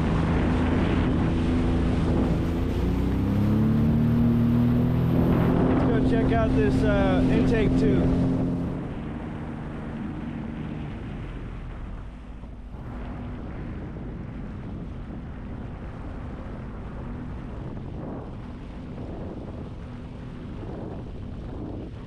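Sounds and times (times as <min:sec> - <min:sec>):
jet ski engine running: 0:00.0 - 0:22.0
wind on microphone: 0:00.0 - 0:22.0.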